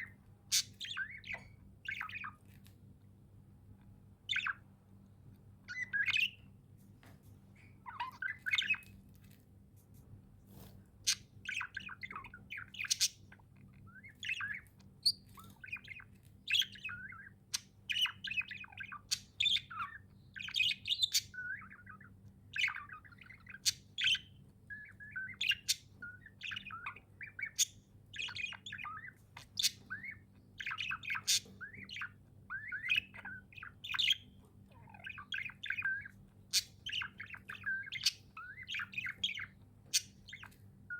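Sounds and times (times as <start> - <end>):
budgies chirping and warbling: 0.0 - 40.9
faint low hum: 0.0 - 40.9.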